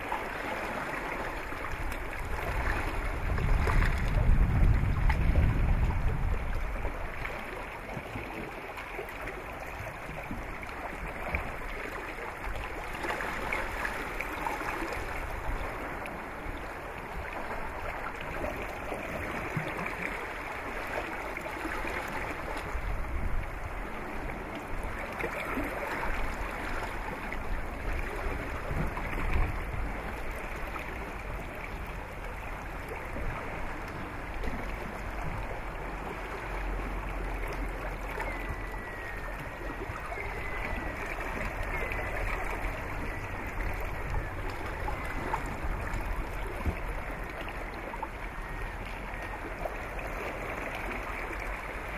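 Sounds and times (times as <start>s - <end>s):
light wind: 0.0s - 51.9s.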